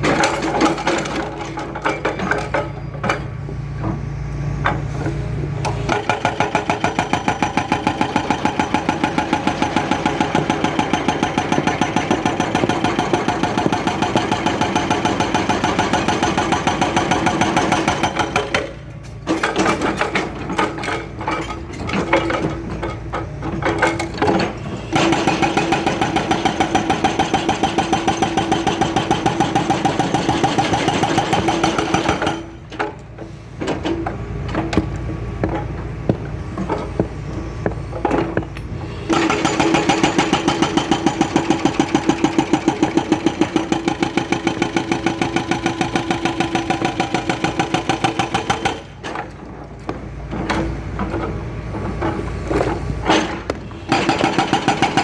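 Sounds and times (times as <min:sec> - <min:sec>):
excavator engine running: 0:00.0 - 0:55.0
hydraulic breaker hammering asphalt: 0:05.6 - 0:33.0, 0:34.0 - 0:55.0.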